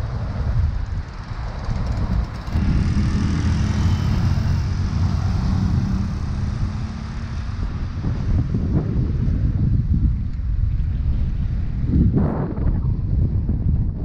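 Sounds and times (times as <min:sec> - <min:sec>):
vehicle engine humming: 0:00.0 - 0:11.9
wind rushing over microphone: 0:00.0 - 0:14.0.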